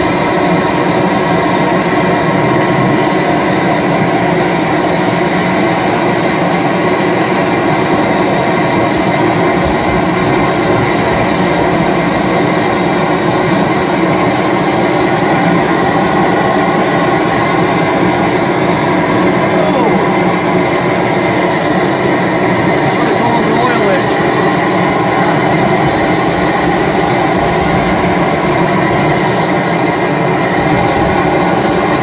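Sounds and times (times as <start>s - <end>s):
stationary engine running: 0.0s - 32.0s.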